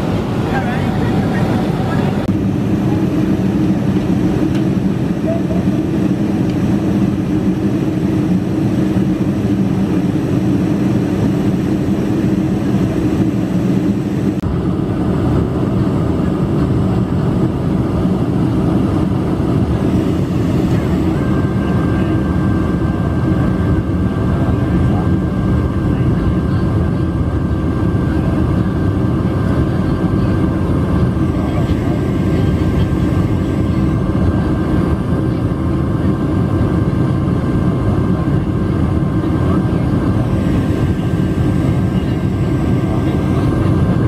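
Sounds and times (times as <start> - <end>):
airplane cabin engine noise: 0.0 - 44.0.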